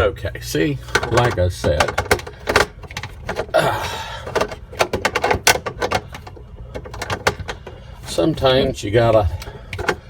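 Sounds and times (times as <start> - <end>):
plastic parts clicking and knocking: 0.9 - 10.0.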